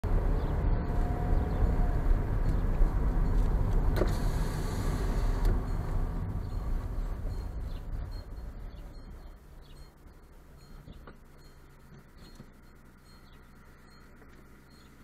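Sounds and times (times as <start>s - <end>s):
car engine: 0.0s - 15.0s.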